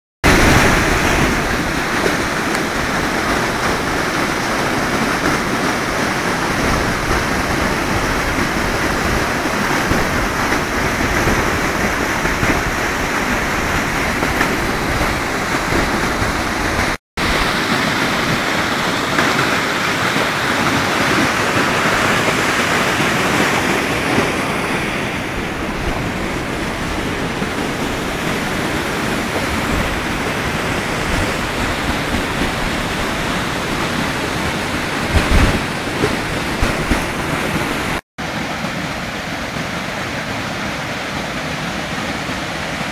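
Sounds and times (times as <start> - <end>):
floodwater rushing over weir: 0.2 - 42.9.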